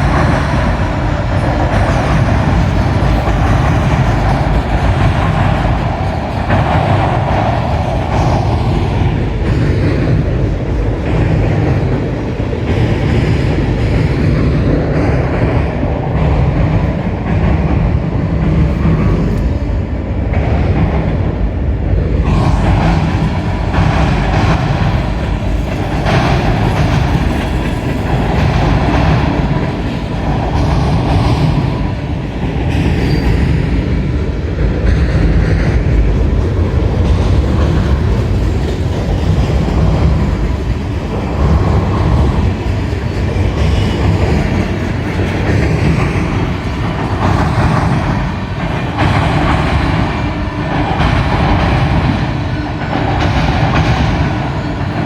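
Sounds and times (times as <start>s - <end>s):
railcar clatter: 0.0s - 55.0s
train rumbling past: 0.0s - 55.0s.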